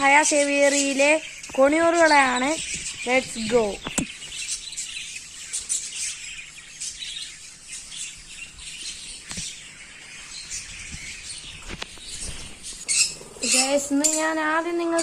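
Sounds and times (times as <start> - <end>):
birds chirping and twittering: 0.0 - 15.0.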